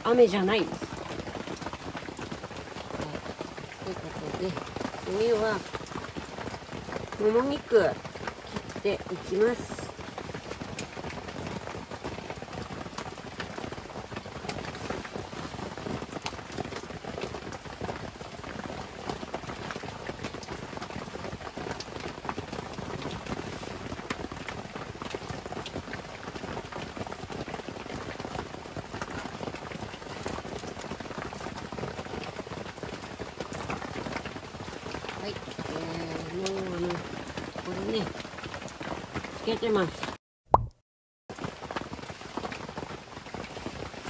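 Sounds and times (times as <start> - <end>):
heavy rain falling: 0.0 - 40.2, 41.3 - 44.0
raindrops ticking on a surface: 0.0 - 40.7, 41.3 - 44.0.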